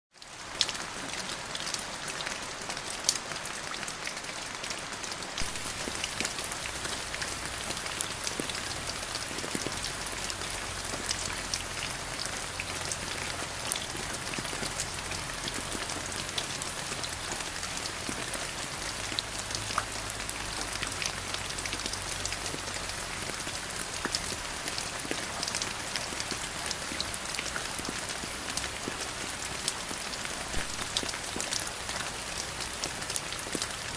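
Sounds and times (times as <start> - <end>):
steady rain: 0.1 - 33.9.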